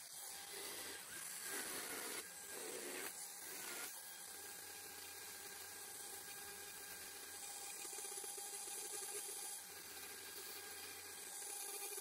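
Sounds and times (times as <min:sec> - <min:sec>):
electric chainsaw cutting wood: 0:00.0 - 0:12.0.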